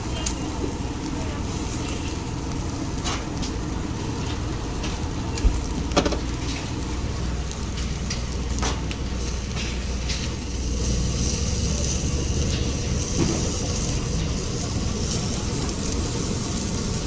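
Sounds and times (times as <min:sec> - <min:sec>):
skewers sizzling on a grill: 0:00.0 - 0:17.0.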